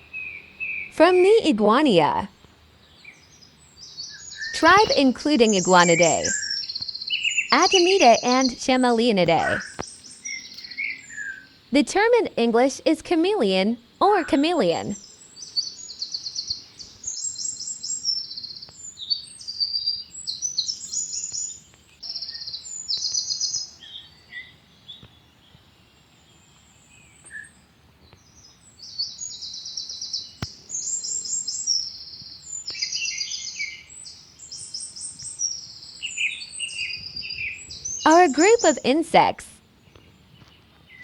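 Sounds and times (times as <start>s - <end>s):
birds singing trills and chirps: 2.3s - 11.7s, 14.3s - 41.0s.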